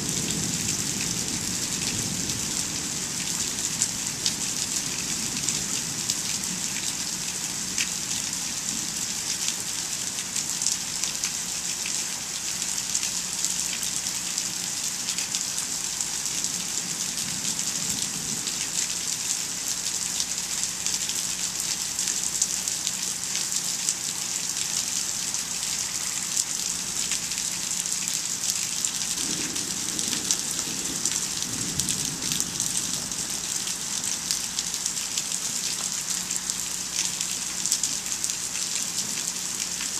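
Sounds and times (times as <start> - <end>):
heavy rain with drop ticks: 0.0 - 39.9.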